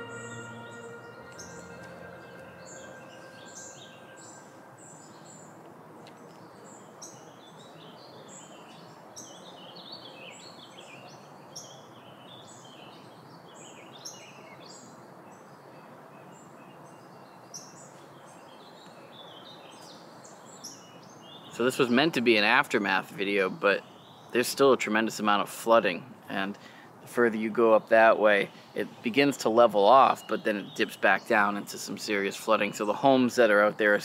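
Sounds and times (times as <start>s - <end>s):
outdoor background hiss: 0.0s - 34.0s
songbirds chirping: 0.0s - 34.0s.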